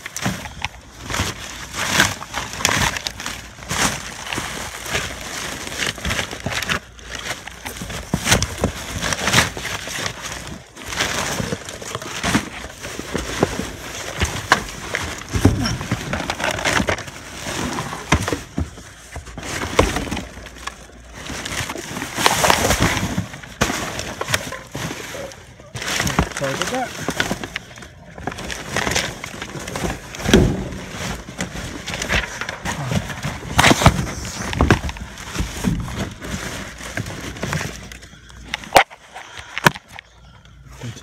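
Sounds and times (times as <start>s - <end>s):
sharp crackles and bumps: 0.0s - 40.1s
plastic bags and cardboard rustling: 0.0s - 41.0s.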